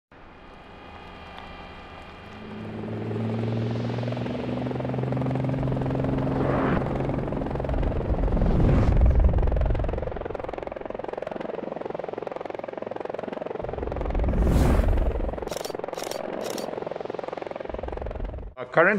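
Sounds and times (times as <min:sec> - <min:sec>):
helicopter rotors buzzing: 0:00.2 - 0:18.6.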